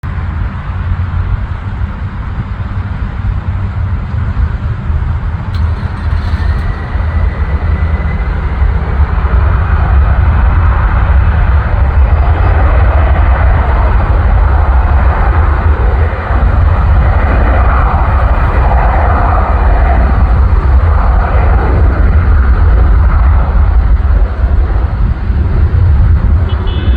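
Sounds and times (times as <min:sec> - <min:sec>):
jet engines roaring: 0:00.1 - 0:26.9.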